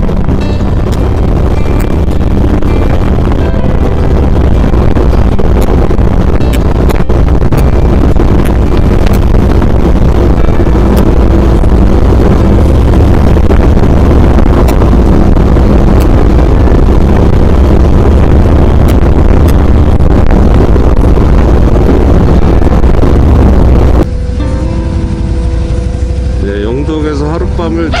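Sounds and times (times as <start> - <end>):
motorcycle engine running: 0.0 - 28.0
wind rush on microphone: 0.0 - 28.0.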